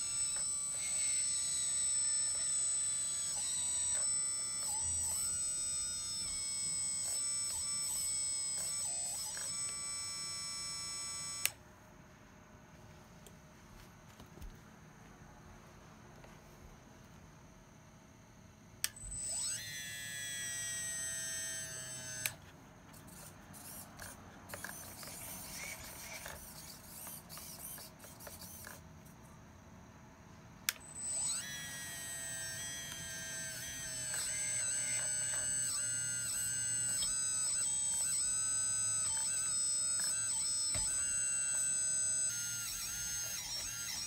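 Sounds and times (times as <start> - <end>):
toy excavator motor whine: 0.0 - 11.6, 18.8 - 29.3, 30.6 - 44.0.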